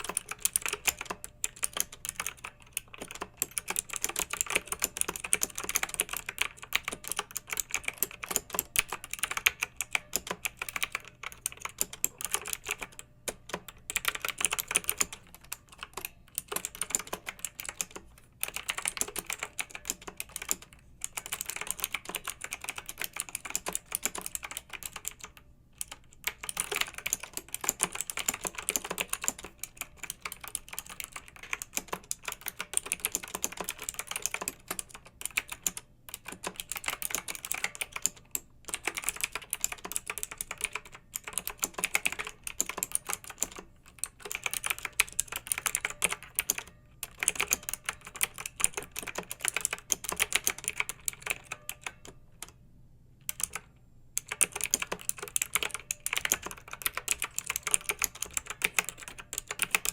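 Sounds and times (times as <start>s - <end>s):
mechanical keyboard typing: 0.0s - 52.6s, 53.2s - 59.9s.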